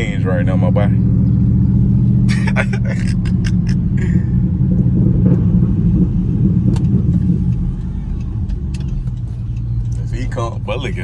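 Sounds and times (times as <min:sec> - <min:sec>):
car engine deep rumble: 0:00.0 - 0:11.0.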